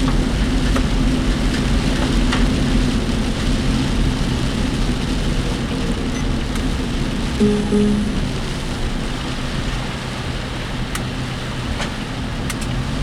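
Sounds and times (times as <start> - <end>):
rain hissing on car: 0.0 - 7.4, 8.3 - 13.0.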